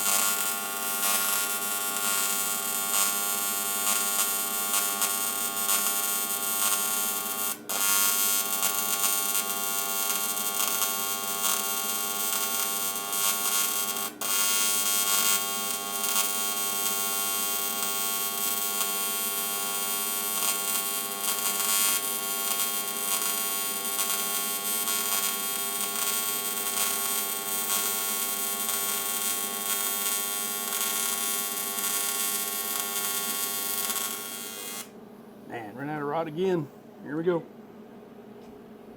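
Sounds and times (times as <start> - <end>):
welding arc buzzing and hissing: 0.0 - 35.0.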